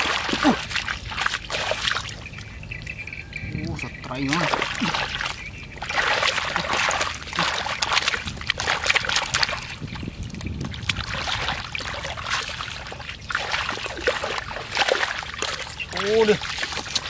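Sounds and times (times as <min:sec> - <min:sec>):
hands splashing in muddy water: 0:00.0 - 0:02.5, 0:04.2 - 0:17.0
foot sloshing through water: 0:00.0 - 0:03.1, 0:03.8 - 0:17.0.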